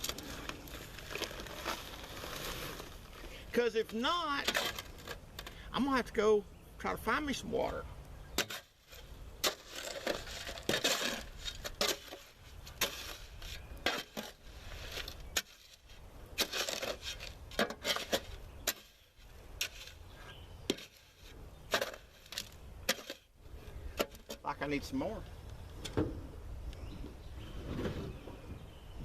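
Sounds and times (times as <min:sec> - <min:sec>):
gritty concrete scraping: 0:00.0 - 0:06.2, 0:06.9 - 0:26.0, 0:26.9 - 0:28.7.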